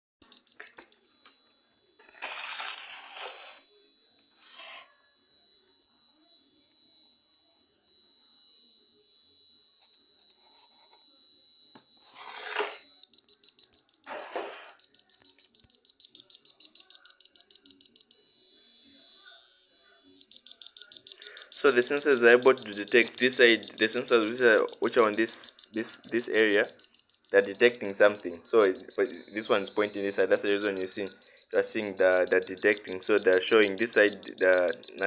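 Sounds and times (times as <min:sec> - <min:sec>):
piezo buzzer beeping: 0:00.3 - 0:35.0.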